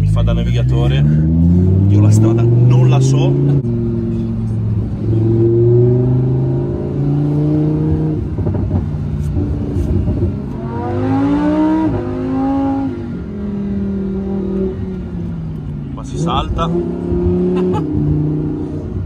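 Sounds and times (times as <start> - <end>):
car engine revving in cabin: 0.0 - 19.0.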